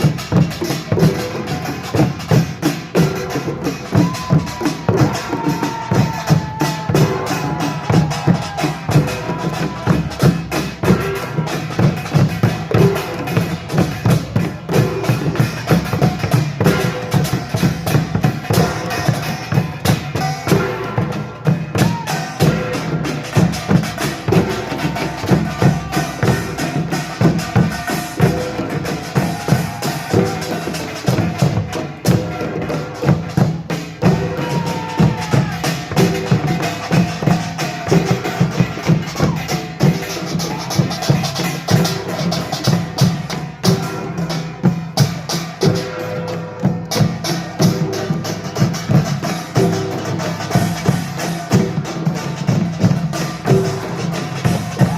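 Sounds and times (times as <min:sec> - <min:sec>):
drums driving rhythm: 0:00.0 - 0:54.9.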